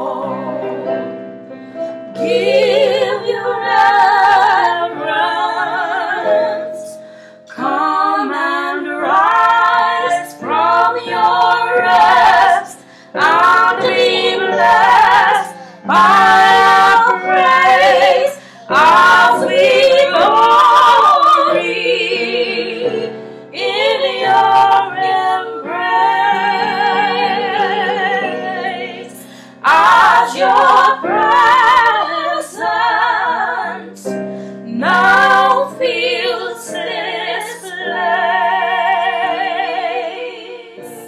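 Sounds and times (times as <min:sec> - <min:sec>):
woman singing with vibrato: 0:07.5 - 0:34.1, 0:34.7 - 0:41.0.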